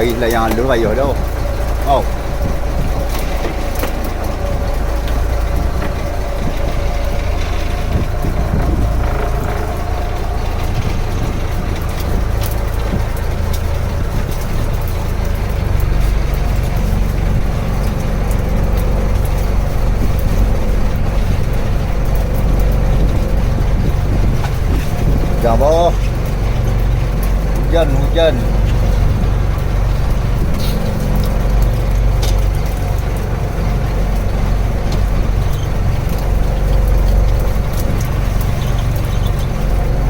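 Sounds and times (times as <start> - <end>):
boat engine running: 0.0 - 40.0
light ticks: 0.0 - 40.0.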